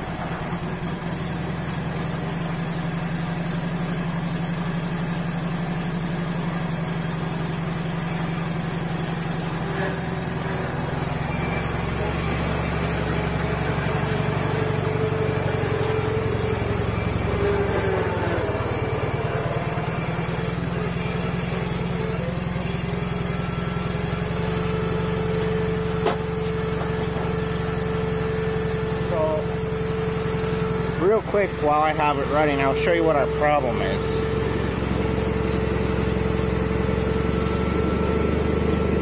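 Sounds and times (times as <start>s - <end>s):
tractor engine humming: 0.0s - 39.0s.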